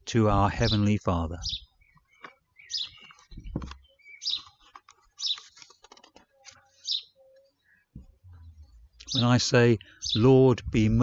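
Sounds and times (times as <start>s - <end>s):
garden birds chirping: 0.0s - 11.0s.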